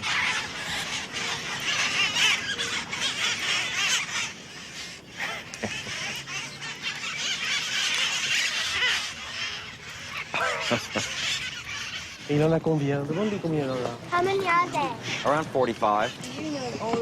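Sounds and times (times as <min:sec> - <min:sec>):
parrots screeching and chattering: 0:00.0 - 0:17.0.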